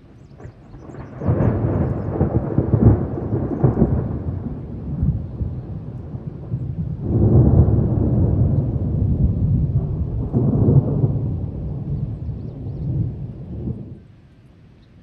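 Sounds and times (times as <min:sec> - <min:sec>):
rolling thunder: 0:00.3 - 0:14.1.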